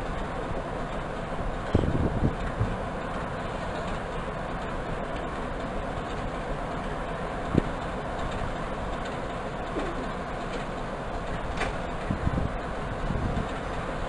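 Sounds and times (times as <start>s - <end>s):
diesel locomotive engine rumble: 0.0s - 14.0s.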